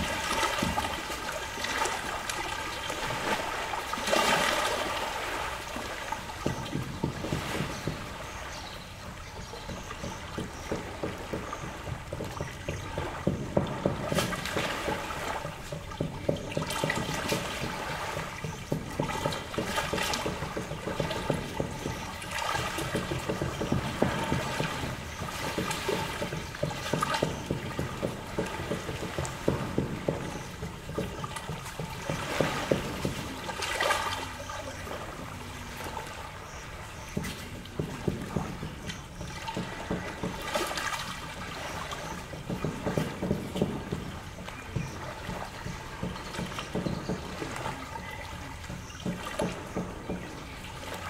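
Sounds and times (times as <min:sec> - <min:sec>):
water trickling: 0:00.0 - 0:51.0
waves lapping on shore: 0:00.0 - 0:51.0.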